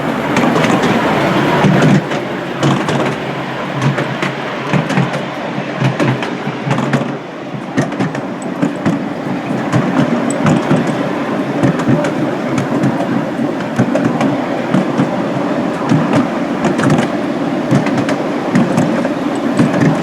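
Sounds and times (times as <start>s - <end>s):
miniature train running: 0.0s - 20.0s
wheels clicking on rails: 0.0s - 20.0s.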